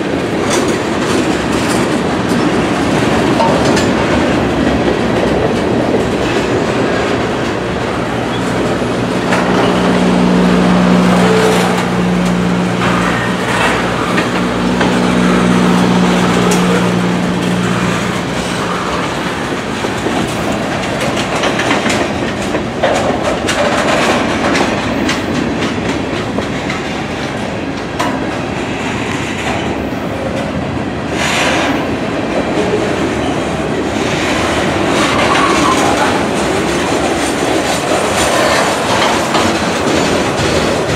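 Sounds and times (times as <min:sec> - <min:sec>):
clickety-clack over rail joints: 0:00.0 - 0:40.9
train wheels on rails: 0:00.0 - 0:40.9.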